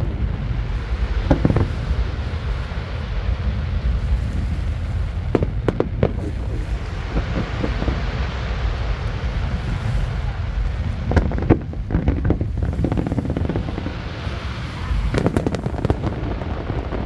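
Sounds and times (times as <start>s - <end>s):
fireworks cracking: 0.0s - 17.0s
low rumble: 0.0s - 17.0s.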